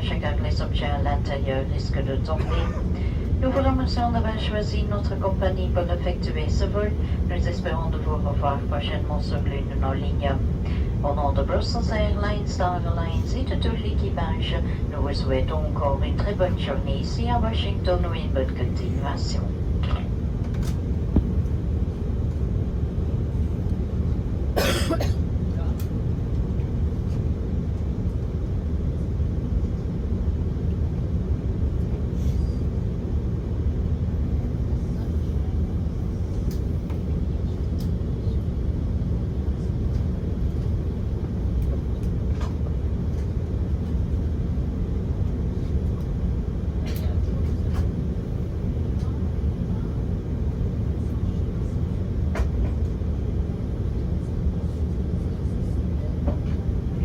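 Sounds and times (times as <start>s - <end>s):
airplane rolling on taxiway: 0.0s - 57.0s
idling jet engines rumble: 0.0s - 57.0s.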